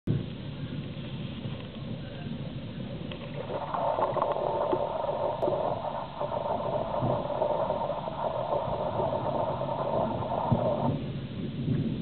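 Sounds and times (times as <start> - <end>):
rain hissing: 0.1 - 12.0
thunder rumbling: 0.1 - 12.0.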